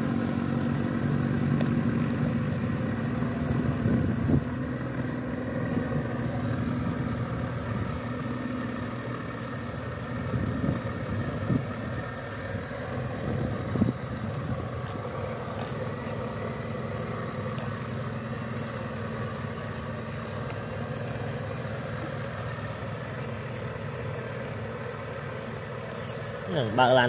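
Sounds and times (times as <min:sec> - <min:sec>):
model excavator motors running: 0:00.0 - 0:27.0.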